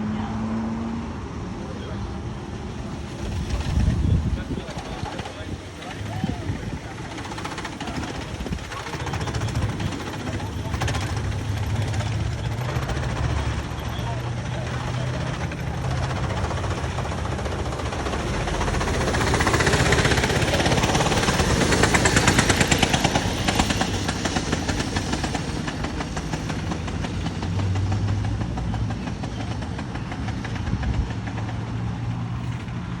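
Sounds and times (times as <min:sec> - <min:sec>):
go-kart engine running: 0:00.0 - 0:33.0.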